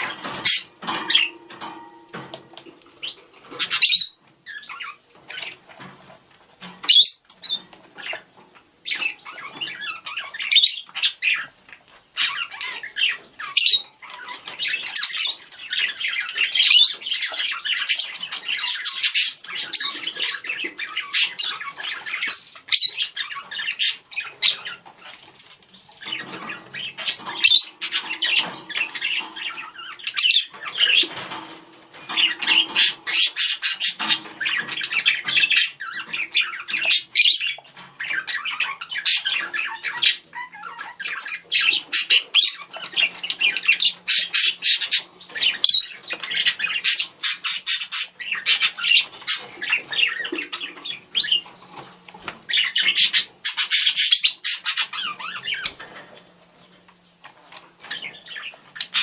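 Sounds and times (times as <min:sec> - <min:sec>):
budgerigars chirping and squawking: 0:00.0 - 0:59.0
budgerigars warbling chatter: 0:03.0 - 0:05.8, 0:06.8 - 0:11.6, 0:12.2 - 0:56.0, 0:57.3 - 0:59.0.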